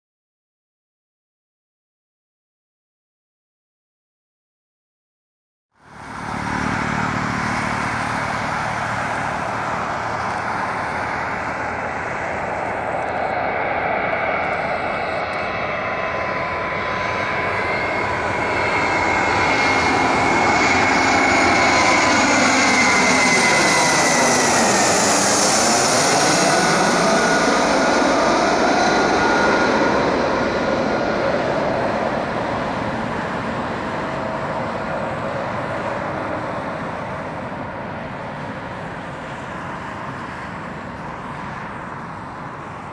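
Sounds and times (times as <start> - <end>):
jet engines rushing and whining: 5.8 - 42.9.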